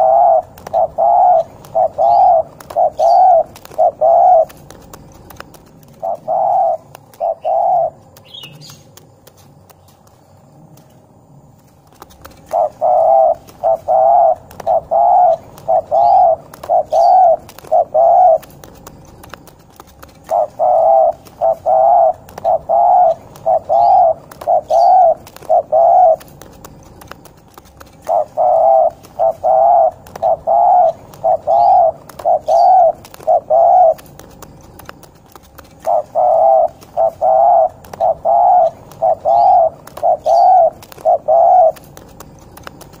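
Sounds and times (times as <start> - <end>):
dove cooing: 0.0 - 9.0, 11.9 - 43.0
small birds chirping: 0.0 - 43.0.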